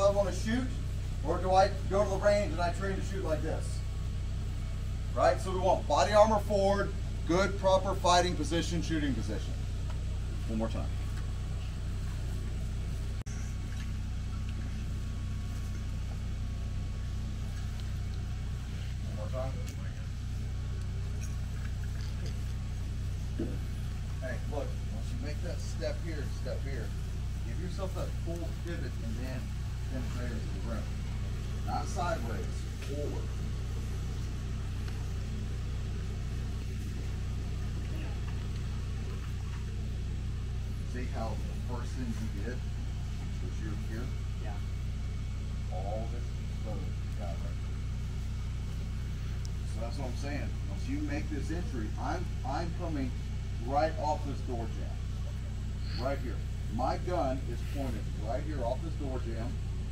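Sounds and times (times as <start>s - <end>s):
low engine drone: 0.0s - 59.9s
motor rumbling: 0.0s - 59.9s.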